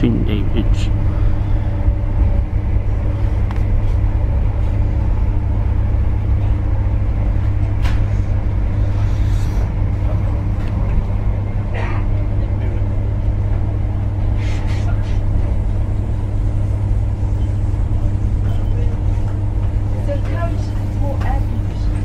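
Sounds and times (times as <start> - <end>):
constant hum: 0.0 - 22.0
train interior rumble: 0.0 - 22.0.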